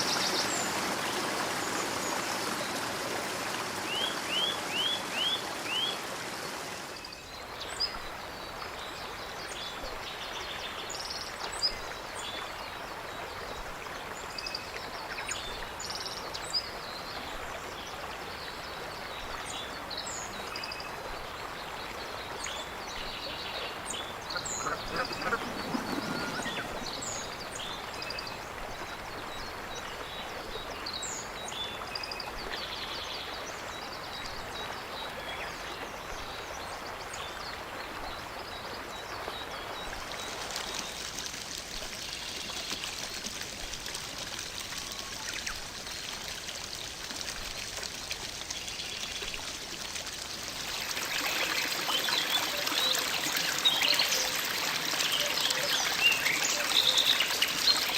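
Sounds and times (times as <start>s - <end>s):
running water: 0.0s - 57.9s.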